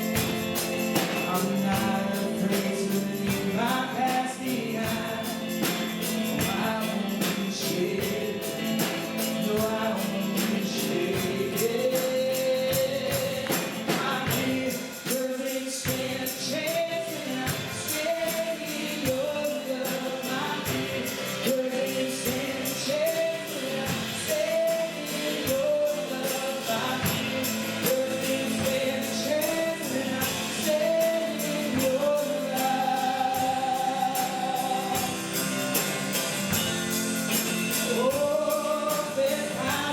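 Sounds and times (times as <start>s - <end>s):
tambourine beat: 0.0s - 39.9s
voices singing gospel: 0.0s - 39.9s.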